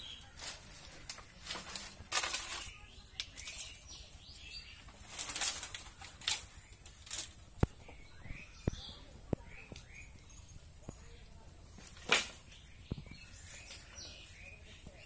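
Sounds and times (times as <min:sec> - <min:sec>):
bamboo sticks rustling and clattering: 0:00.0 - 0:15.0.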